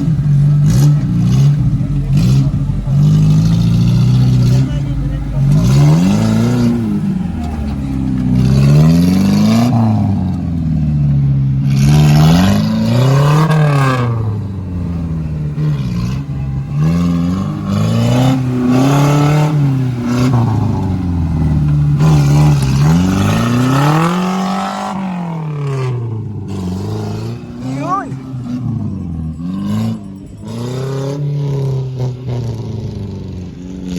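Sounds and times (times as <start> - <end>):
engine revving: 0.0 - 33.9.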